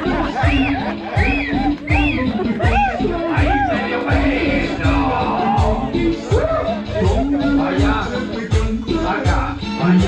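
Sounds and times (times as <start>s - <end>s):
latin dance music: 0.0s - 10.0s.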